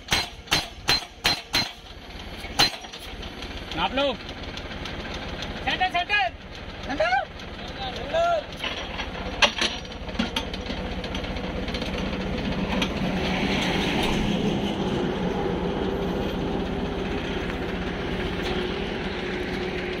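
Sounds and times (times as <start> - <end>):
machine engine droning: 0.0 - 20.0.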